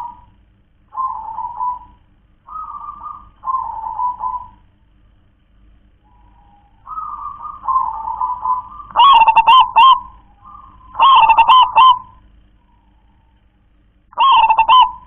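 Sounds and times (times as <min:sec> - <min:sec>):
dove cooing: 0:00.0 - 0:04.7, 0:06.0 - 0:13.4, 0:14.2 - 0:15.0.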